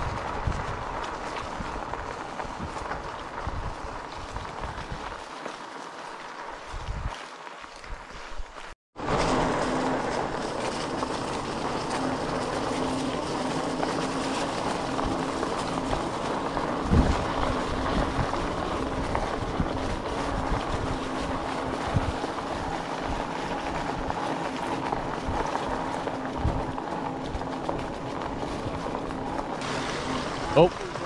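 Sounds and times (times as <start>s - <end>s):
low motor hum: 0.0s - 5.3s, 9.0s - 31.0s
bike tyres rolling on leaves: 0.0s - 31.0s.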